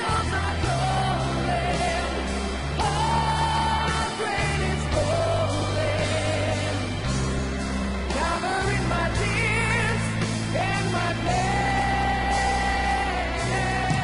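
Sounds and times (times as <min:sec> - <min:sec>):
man singing sustained notes: 0:00.0 - 0:07.2, 0:08.0 - 0:14.0
rock band playing: 0:00.0 - 0:14.0.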